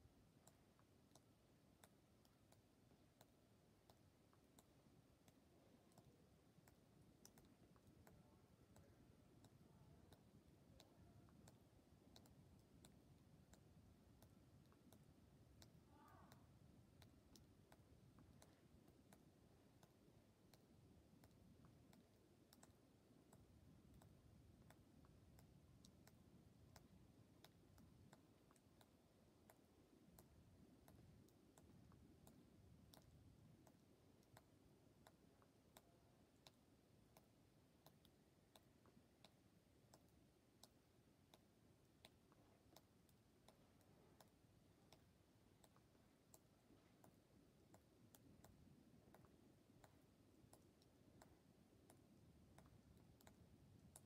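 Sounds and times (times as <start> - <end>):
faint irregular ticks: 0.0 - 54.0
faint low hum: 0.0 - 54.0.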